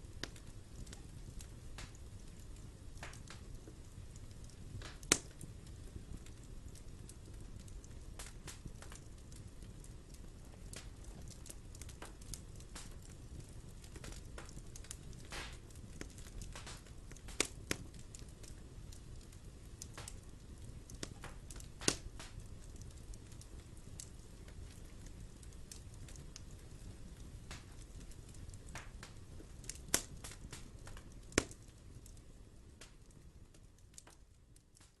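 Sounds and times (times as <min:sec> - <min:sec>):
wood fire crackling: 0:00.0 - 0:35.0
sharp pops of fire: 0:00.1 - 0:35.0.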